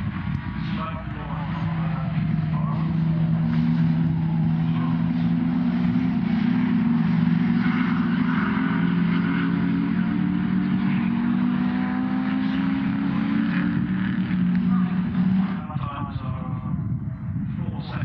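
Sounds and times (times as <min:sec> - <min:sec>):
racing car engines running hard: 0:00.0 - 0:18.0.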